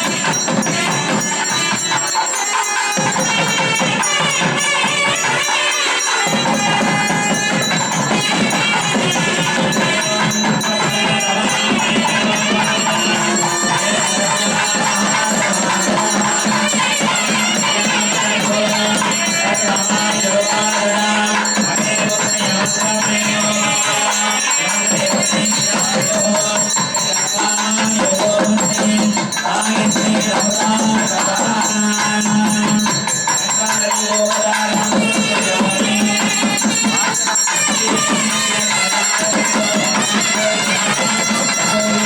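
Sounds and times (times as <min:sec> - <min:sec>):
jingling percussion: 0:00.0 - 0:42.0
wavering melody: 0:05.6 - 0:42.0.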